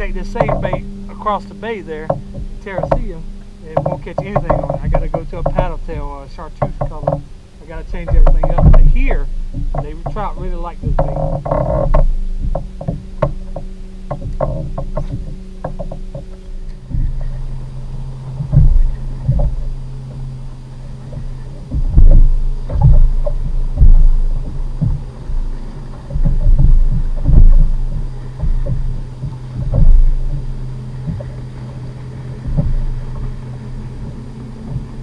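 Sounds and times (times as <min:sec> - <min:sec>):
steady low hum: 0:00.0 - 0:35.0
waves slapping against plastic hull: 0:00.0 - 0:35.0.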